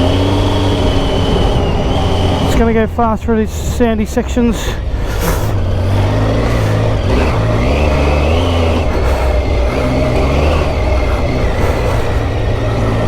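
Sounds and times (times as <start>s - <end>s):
motorcycle engine revving: 0.0s - 13.0s
wind noise: 0.0s - 13.0s.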